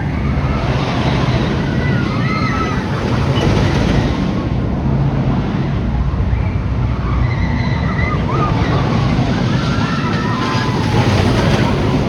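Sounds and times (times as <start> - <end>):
roller coaster rumbling on track: 0.0 - 12.0
wind buffeting microphone: 0.0 - 12.0.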